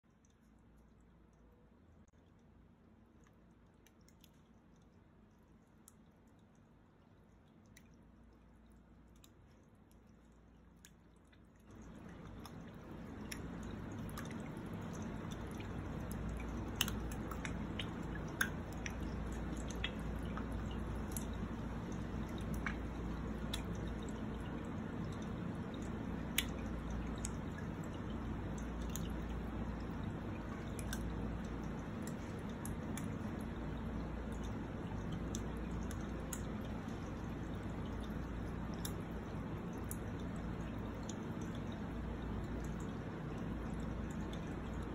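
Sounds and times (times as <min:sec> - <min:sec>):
sharp water drips: 0:00.1 - 0:44.9
water trickling: 0:00.1 - 0:44.9.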